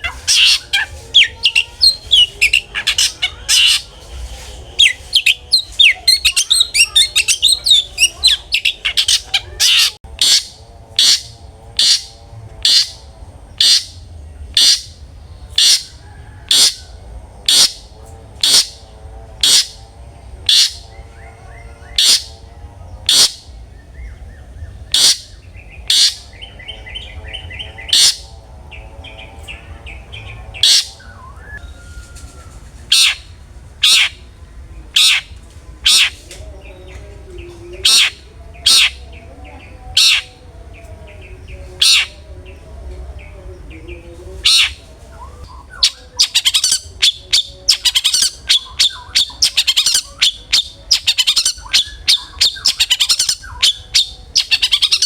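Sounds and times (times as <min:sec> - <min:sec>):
shrike calls and chatter: 0:00.0 - 0:55.0.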